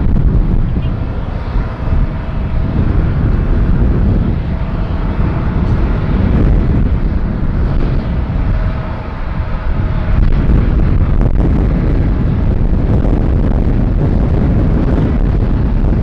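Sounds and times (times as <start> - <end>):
faint jet engine whine: 0.0 - 16.0
jet engines rumbling: 0.0 - 16.0.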